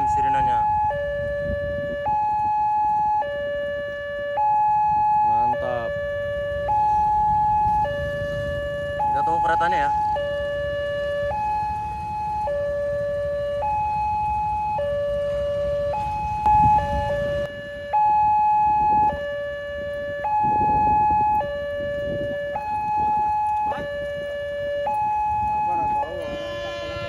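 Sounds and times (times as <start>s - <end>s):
two-tone level crossing siren: 0.0s - 27.0s.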